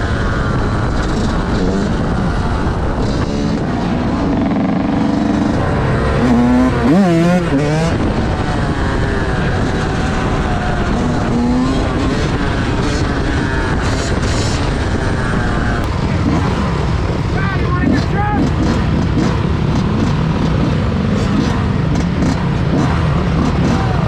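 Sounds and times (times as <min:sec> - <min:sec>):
motorcycle engine revving: 0:00.0 - 0:24.0
steady rush of noise: 0:00.0 - 0:24.0.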